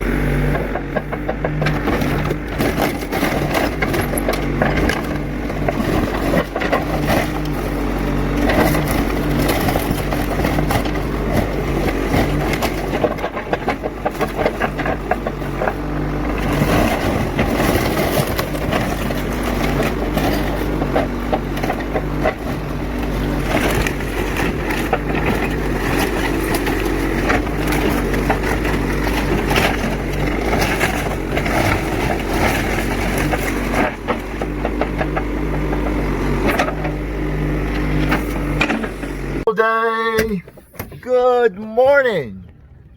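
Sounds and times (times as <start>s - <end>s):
machine engine running: 0.0s - 39.5s
wood cracking and crunching: 0.1s - 40.4s.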